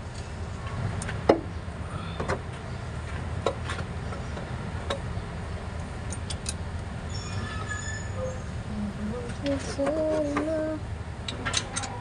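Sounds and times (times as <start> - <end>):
low steady hum: 0.0 - 7.1, 8.3 - 12.0.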